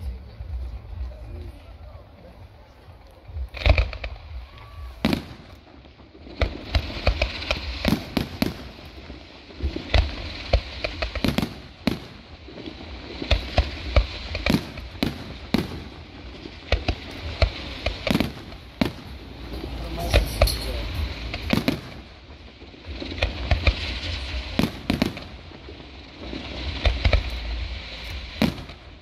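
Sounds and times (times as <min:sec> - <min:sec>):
fireworks bursting: 0:00.0 - 0:29.0
low rumble: 0:00.0 - 0:29.0.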